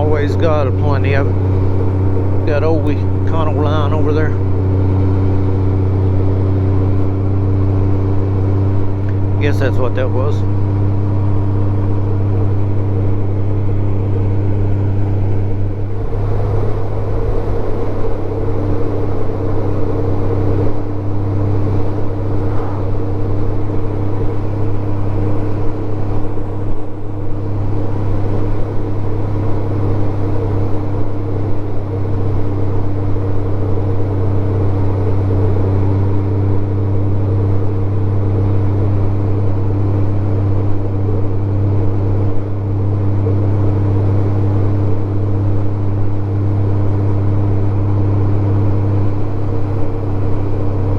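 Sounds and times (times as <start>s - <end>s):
motorcycle engine droning: 0.0s - 50.9s
road and wind noise: 0.0s - 50.9s.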